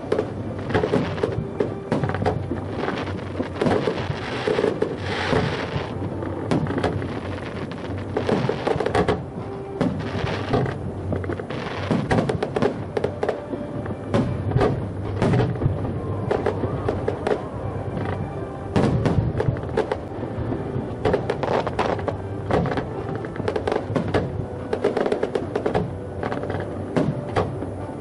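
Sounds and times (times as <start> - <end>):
fireworks booming: 0.0 - 28.0
music playing: 0.0 - 28.0.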